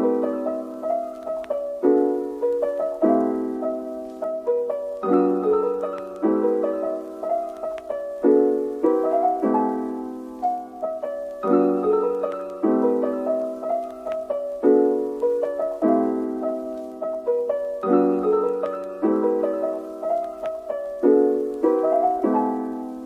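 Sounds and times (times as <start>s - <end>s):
gentle piano chords: 0.0s - 23.0s.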